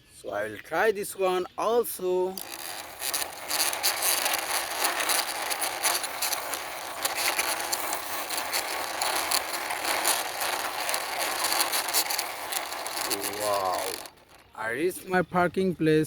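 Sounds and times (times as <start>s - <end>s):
toy truck wheels clattering: 1.9s - 15.3s.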